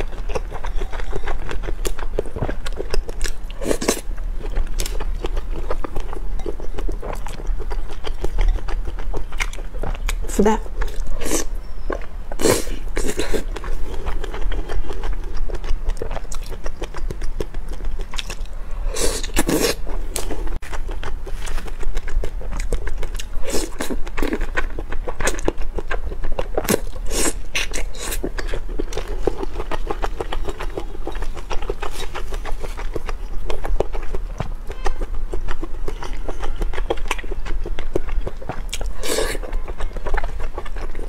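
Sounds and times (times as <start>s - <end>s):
biting and chewing food: 0.0s - 41.0s.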